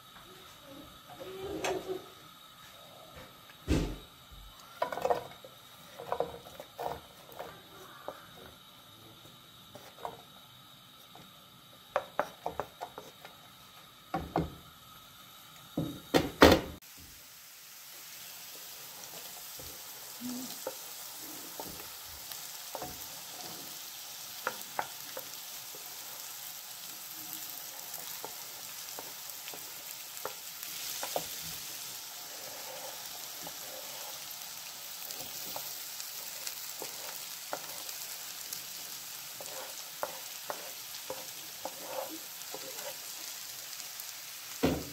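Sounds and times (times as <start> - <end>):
vegetables sizzling in oil: 0.0 - 44.9.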